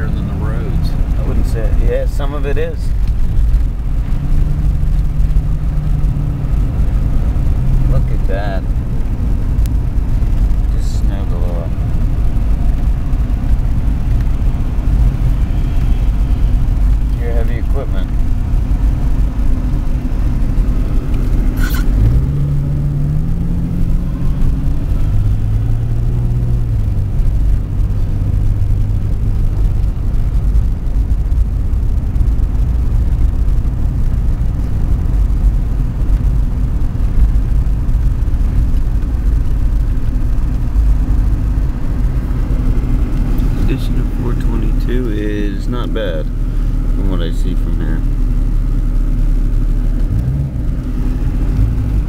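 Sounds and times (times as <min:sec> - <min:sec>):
car engine accelerating: 0:00.0 - 0:52.0
road rumble: 0:00.0 - 0:52.0.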